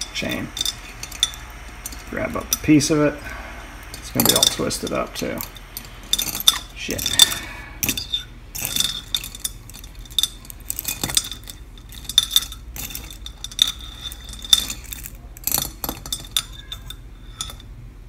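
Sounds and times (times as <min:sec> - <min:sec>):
metal hook clinking and scraping: 0:00.0 - 0:17.7.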